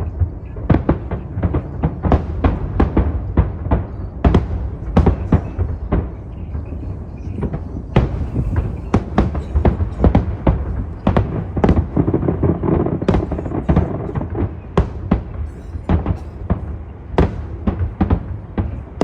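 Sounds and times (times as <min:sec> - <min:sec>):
fireworks bangs: 0:00.0 - 0:19.0
low rumble of bursts: 0:00.0 - 0:19.0.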